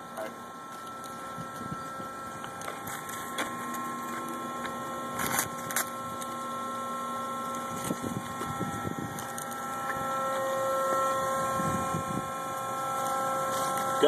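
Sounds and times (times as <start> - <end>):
electrical hum: 0.0 - 14.0
faint high whining tones: 0.0 - 14.0.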